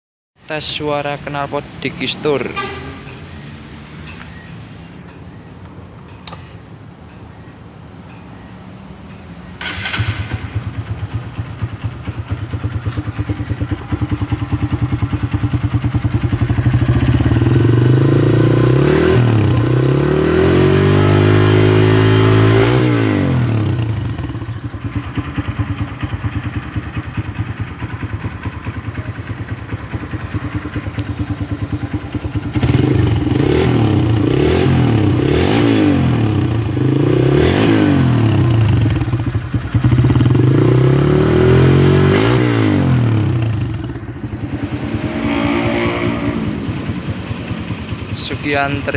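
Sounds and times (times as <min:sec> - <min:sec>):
motorcycle engine idling and revving: 0:00.5 - 0:06.4, 0:08.9 - 0:48.9.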